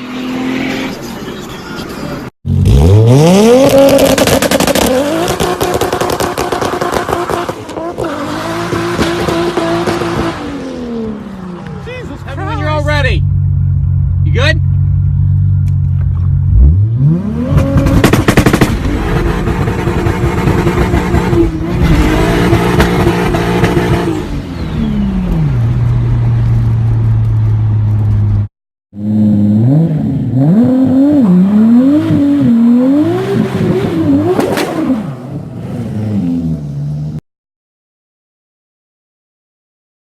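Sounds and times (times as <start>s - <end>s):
car engine revving: 0.0s - 37.2s.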